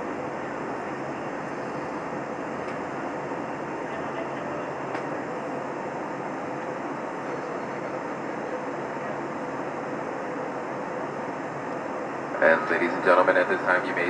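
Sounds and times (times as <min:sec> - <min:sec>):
aircraft cabin engine drone: 0:00.0 - 0:14.0.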